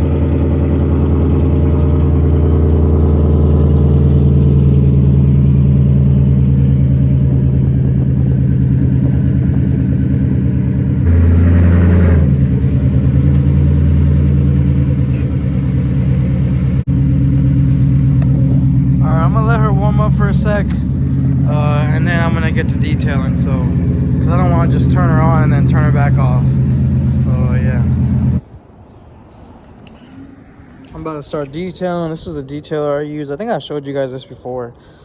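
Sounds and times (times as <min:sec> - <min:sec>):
car engine idling: 0:00.0 - 0:28.4.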